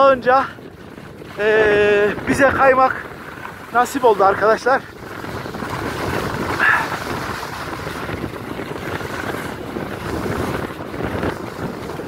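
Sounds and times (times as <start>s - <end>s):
wind rushing over microphone: 0.0s - 12.0s
skis scraping on snow: 0.8s - 12.0s.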